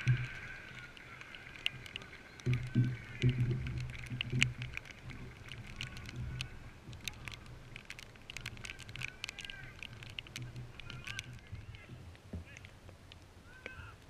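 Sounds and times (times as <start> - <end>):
light clicks: 0.0 - 14.0.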